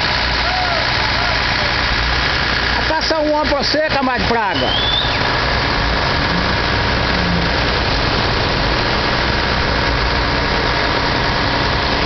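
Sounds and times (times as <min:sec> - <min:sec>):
heavy diesel truck engine running: 0:00.0 - 0:12.0.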